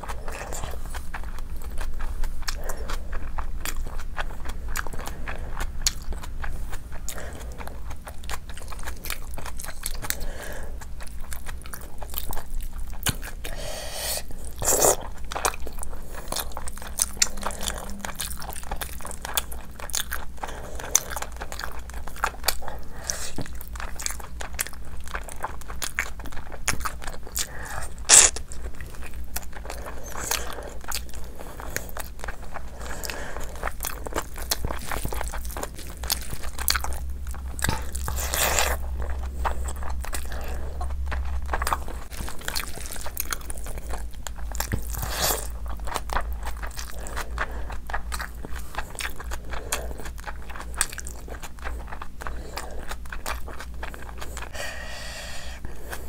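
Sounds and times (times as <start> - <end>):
person chewing and crunching food: 0.0 - 56.0.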